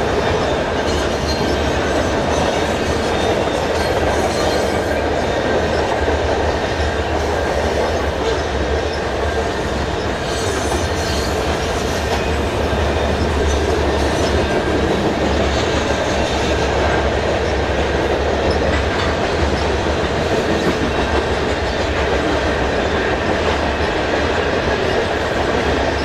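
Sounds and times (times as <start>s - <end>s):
freight train wheels rolling on rail: 0.0s - 26.0s.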